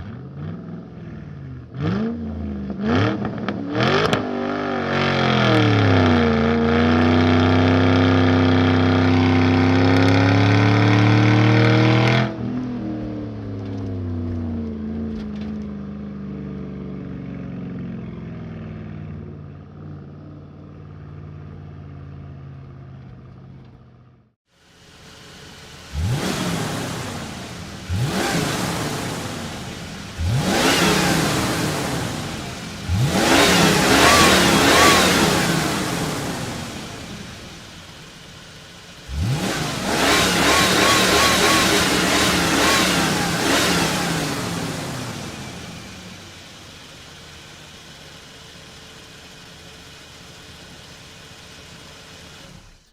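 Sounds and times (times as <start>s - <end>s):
car engine revving: 0.0s - 23.8s, 25.0s - 52.9s.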